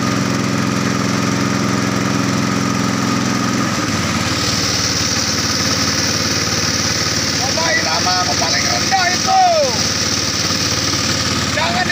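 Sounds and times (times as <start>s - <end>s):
motorboat engine running: 0.0s - 11.9s.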